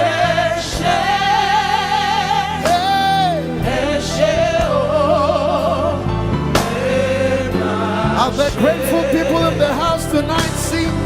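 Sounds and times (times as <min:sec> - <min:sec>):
backing band playing: 0:00.0 - 0:11.0.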